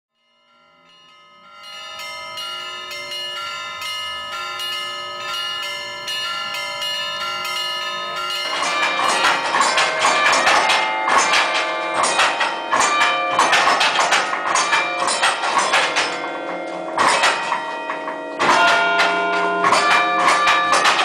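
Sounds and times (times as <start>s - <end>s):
church tower bells ringing: 0.2s - 21.0s.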